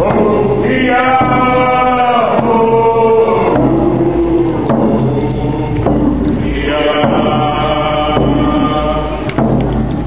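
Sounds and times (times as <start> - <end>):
group chanting in unison: 0.0 - 9.6.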